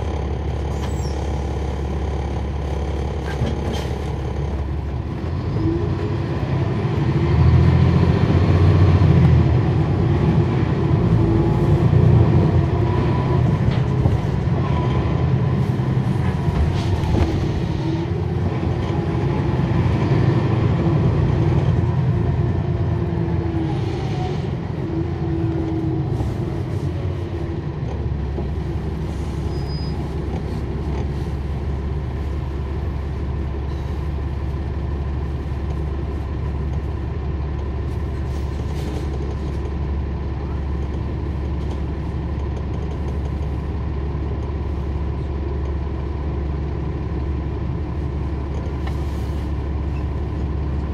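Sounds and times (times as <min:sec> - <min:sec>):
bus diesel engine rumble: 0:00.0 - 0:50.9.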